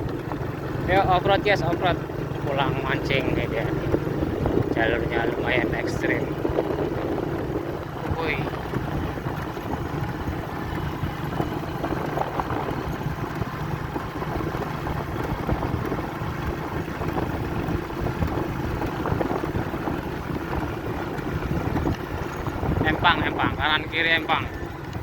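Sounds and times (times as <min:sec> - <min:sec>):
motorbike engine running: 0:00.0 - 0:25.0
wind buffeting microphone: 0:00.0 - 0:25.0.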